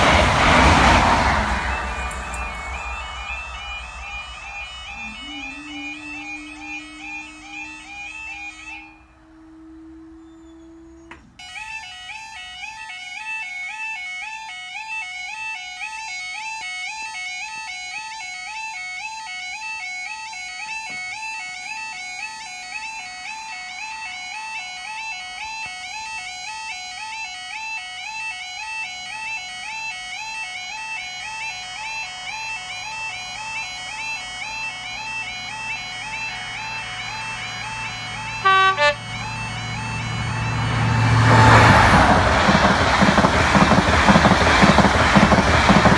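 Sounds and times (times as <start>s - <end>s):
level crossing alarm warble: 0.0s - 45.9s.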